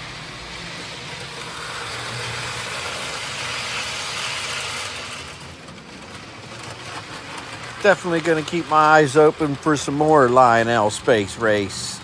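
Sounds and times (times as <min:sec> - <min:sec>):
model train rumbling on track: 0:00.0 - 0:12.0.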